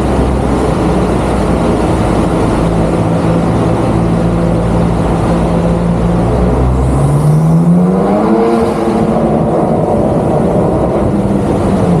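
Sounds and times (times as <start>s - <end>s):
engine running loudly: 0.0s - 12.0s.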